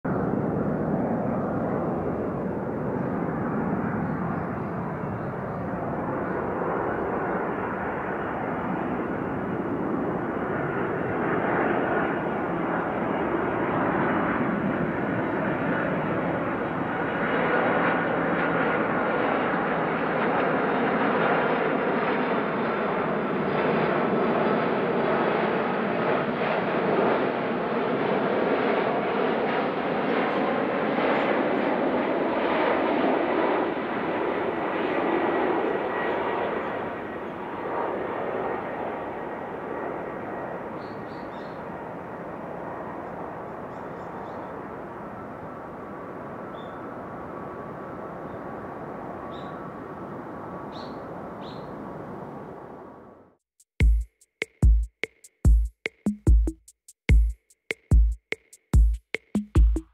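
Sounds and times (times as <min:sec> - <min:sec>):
jet airliner engines rushing: 0:00.1 - 0:53.2.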